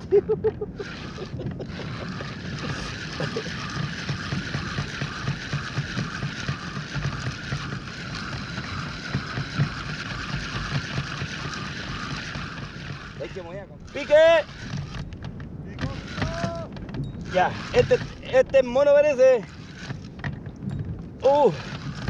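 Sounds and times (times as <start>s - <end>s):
fishing reel whirring: 0.0s - 22.0s
wind and water hiss: 0.0s - 22.0s.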